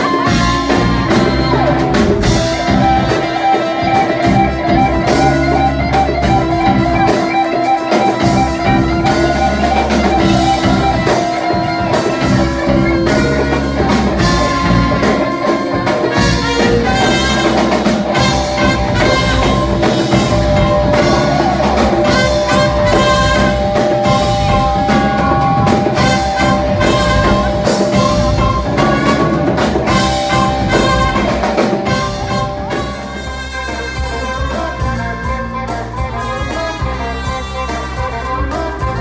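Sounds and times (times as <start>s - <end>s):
lead instrument holding long note: 0.0s - 35.2s
drum kit beat: 0.0s - 39.0s
electric bass: 0.0s - 39.0s
flute: 0.0s - 39.0s
guitar: 0.0s - 39.0s
live band playing funk: 0.0s - 39.0s.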